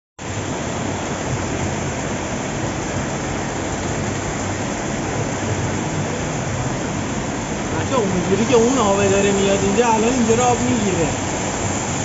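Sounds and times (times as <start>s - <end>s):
heavy rain: 0.2s - 12.0s
water pouring down cascade: 0.2s - 12.0s.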